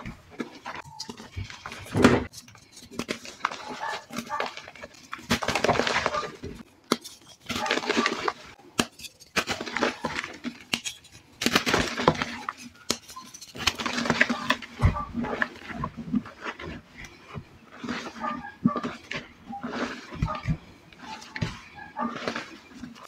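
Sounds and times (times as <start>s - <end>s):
hands crushing chalk powder: 0.0s - 23.0s.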